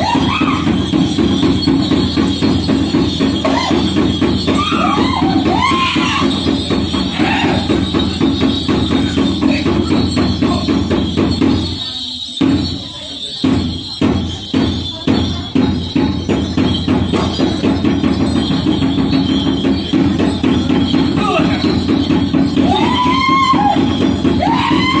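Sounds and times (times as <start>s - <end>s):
large drum beating: 0.0s - 25.0s.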